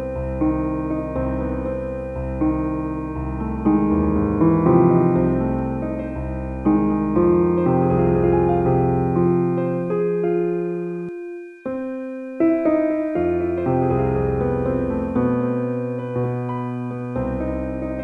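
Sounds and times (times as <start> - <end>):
slow solo piano chords: 0.0 - 18.0.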